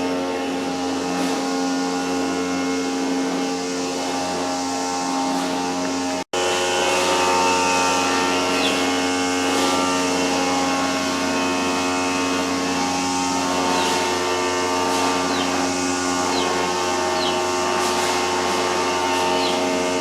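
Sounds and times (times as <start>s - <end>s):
mechanical drone: 0.0s - 20.0s.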